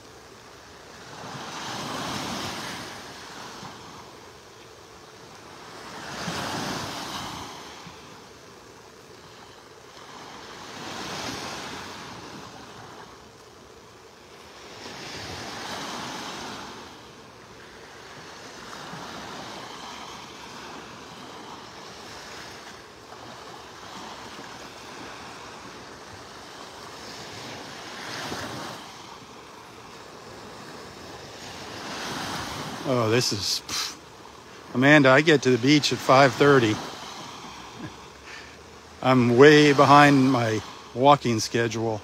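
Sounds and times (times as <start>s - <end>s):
small waves washing onto beach: 0.0s - 42.0s.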